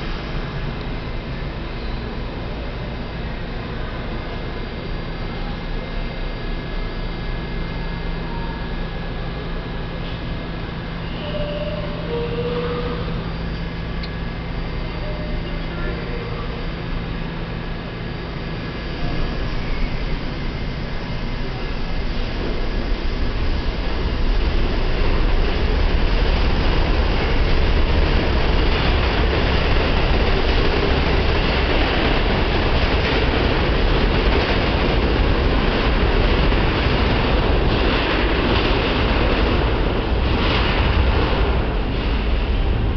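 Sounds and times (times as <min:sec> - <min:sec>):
train motor howl: 0:00.0 - 0:37.8
subway train rumble: 0:00.0 - 0:42.9.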